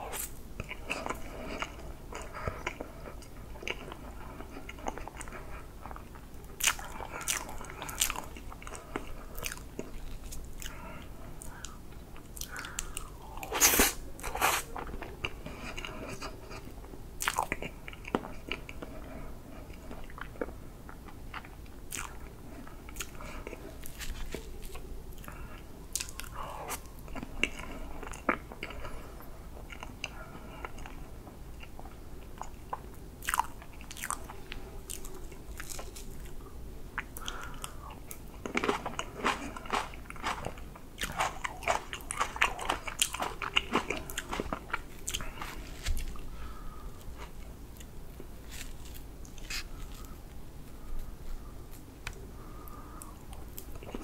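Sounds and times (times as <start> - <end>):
wet chewing and smacking: 0.1 - 29.0, 29.6 - 36.4, 37.0 - 50.1.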